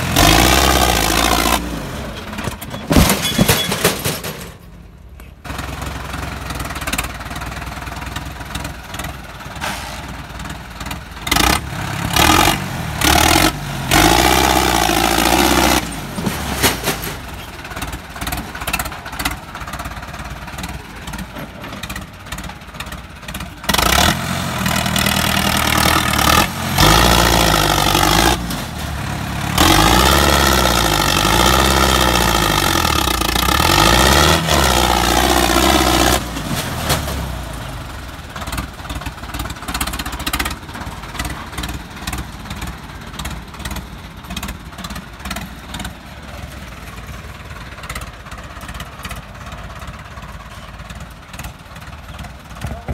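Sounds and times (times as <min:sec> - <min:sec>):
diesel tractor engine revving: 0:00.0 - 0:02.8, 0:05.5 - 0:52.9.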